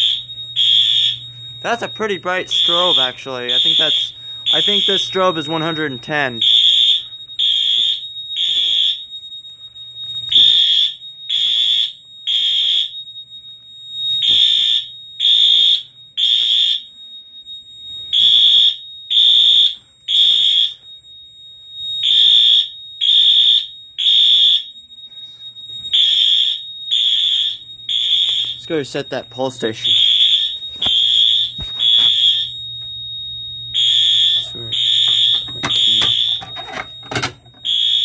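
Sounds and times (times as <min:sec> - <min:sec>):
fire alarm horn beeping: 0:00.0 - 0:38.0.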